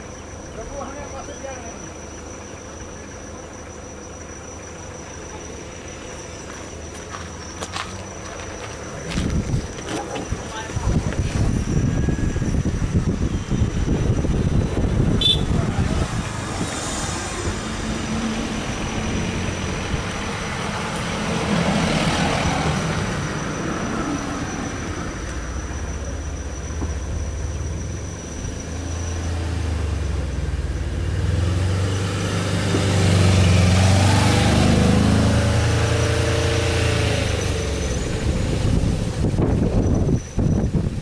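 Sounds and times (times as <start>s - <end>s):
truck engine driving past: 0.0s - 41.0s
car passing: 4.1s - 39.5s.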